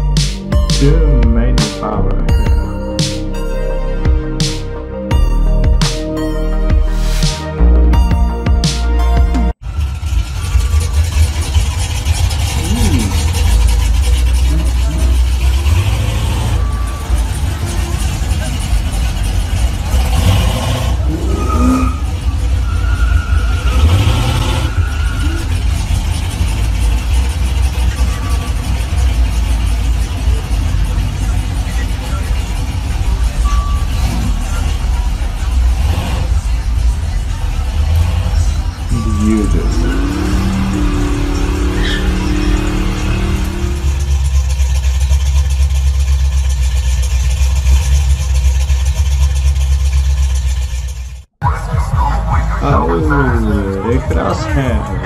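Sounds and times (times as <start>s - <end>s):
car engine exhaust rumble: 9.3s - 55.0s.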